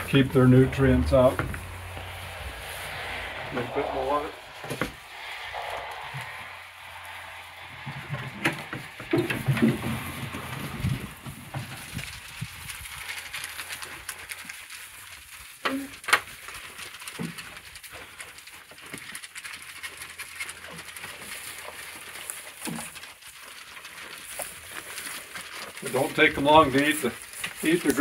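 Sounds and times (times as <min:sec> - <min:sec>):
goats crunching grain: 0:00.0 - 0:28.0
shuffling in straw: 0:00.0 - 0:28.0.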